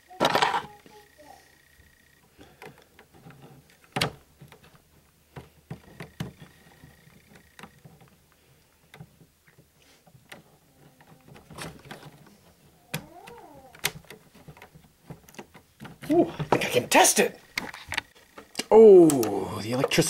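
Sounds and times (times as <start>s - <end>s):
plastic parts clicking and knocking: 0.1s - 1.0s, 2.3s - 16.9s, 17.5s - 20.0s.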